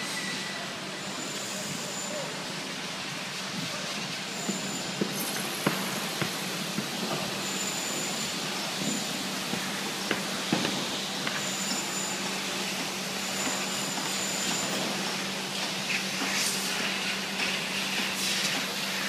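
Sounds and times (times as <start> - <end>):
thin high whine: 0.0 - 18.4
machinery hum: 0.0 - 19.0.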